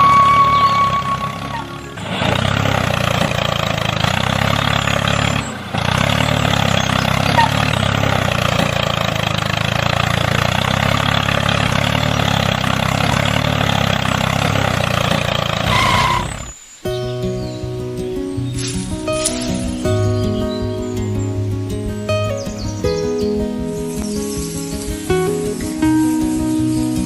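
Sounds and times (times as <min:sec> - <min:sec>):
tractor engine idling: 0:00.0 - 0:16.6, 0:17.4 - 0:27.0.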